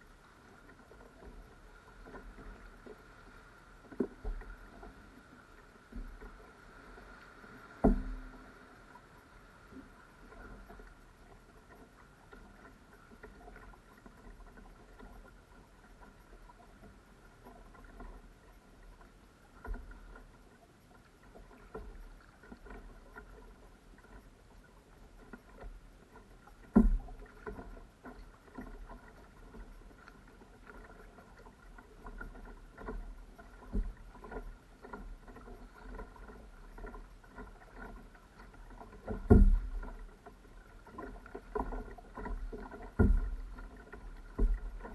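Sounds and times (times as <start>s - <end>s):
paddle strokes splashing: 0.0s - 44.9s
water lapping at hull: 0.0s - 44.9s.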